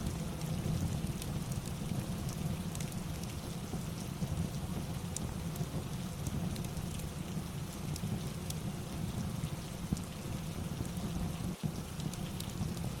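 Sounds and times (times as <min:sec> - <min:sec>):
crackling fireplace: 0:00.0 - 0:13.0
steady rain: 0:00.0 - 0:13.0.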